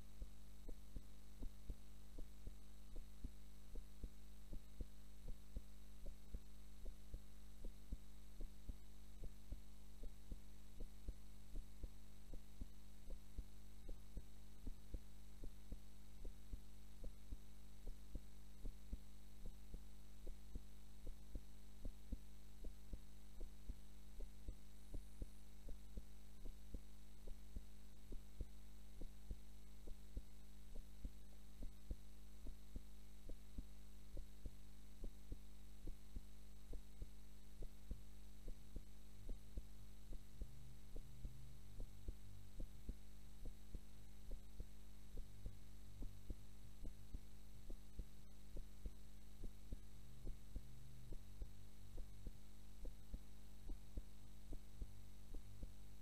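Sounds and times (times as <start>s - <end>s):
heartbeat double thumps: 0.0s - 56.0s
steady electrical hum: 0.0s - 56.0s.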